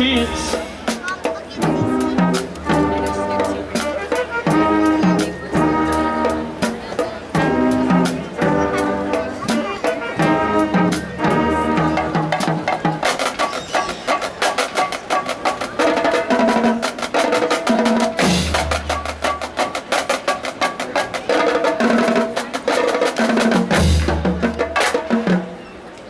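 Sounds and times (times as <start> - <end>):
snare and tenor drums: 0.0 - 26.0.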